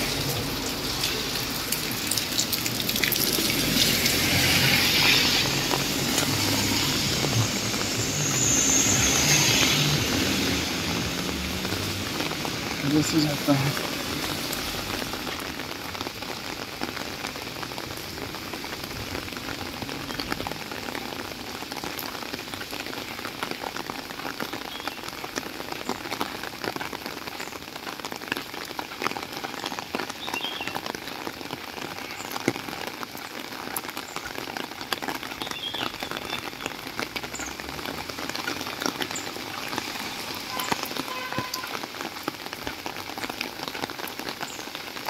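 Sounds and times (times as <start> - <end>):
rain falling on pavement: 0.0 - 45.0.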